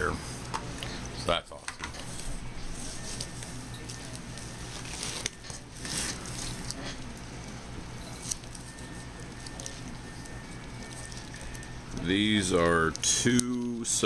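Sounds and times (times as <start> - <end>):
plastic wrapping crinkling: 1.9 - 14.0.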